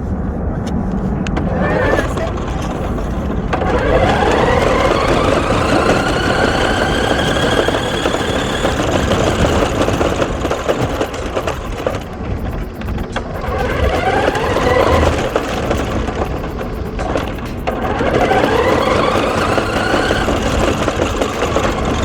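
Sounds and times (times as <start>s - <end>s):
toy car electric motor whining: 1.3s - 22.0s.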